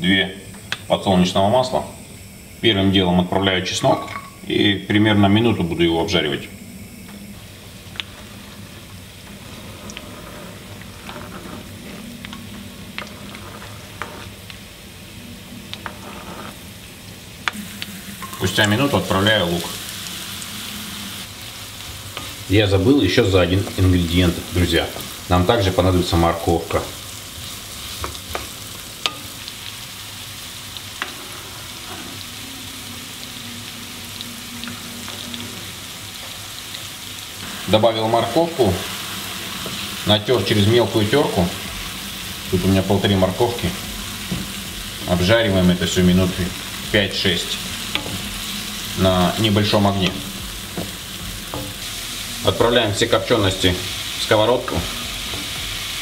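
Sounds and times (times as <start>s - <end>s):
food sizzling on a stove: 0.0s - 56.0s.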